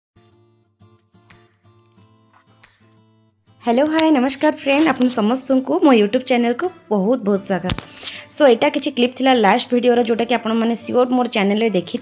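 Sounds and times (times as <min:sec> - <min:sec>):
quiet background music: 0:00.2 - 0:12.0.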